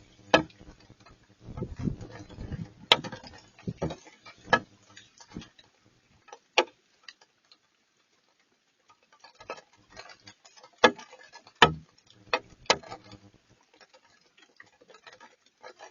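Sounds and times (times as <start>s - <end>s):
raindrops tapping: 0.0s - 15.9s.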